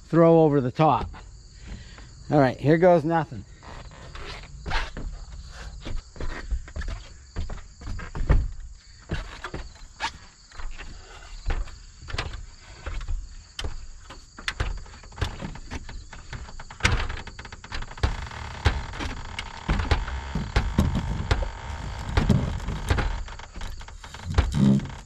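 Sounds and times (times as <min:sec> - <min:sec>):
crickets chirring: 0:00.0 - 0:25.0
boots knocking on ladder rungs: 0:04.1 - 0:25.0
wooden ladder bumping: 0:04.1 - 0:25.0.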